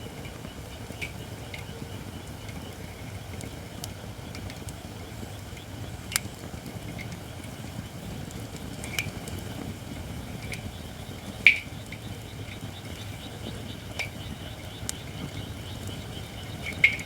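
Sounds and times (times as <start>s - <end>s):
fire crackles: 0.0s - 17.0s.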